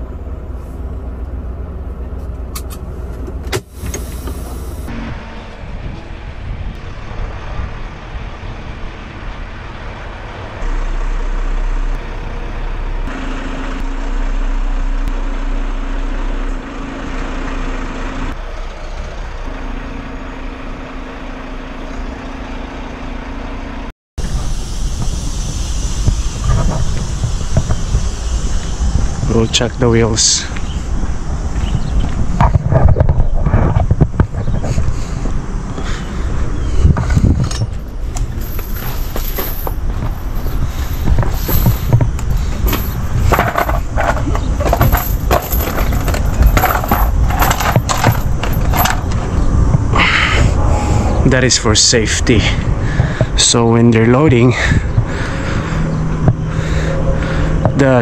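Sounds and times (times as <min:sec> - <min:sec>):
truck engine and road noise: 0:00.0 - 0:58.0.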